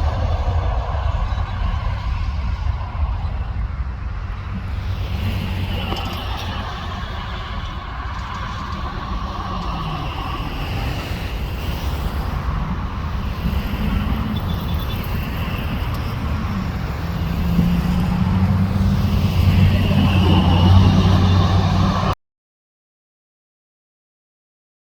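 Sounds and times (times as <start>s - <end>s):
jet engines rumble and whine: 0.0s - 22.2s.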